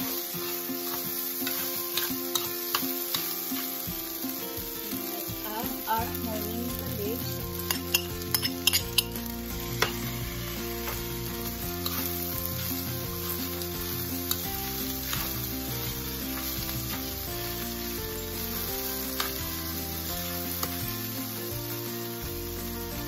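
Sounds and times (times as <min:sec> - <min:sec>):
rice sizzling in frying pan: 0:00.0 - 0:23.0.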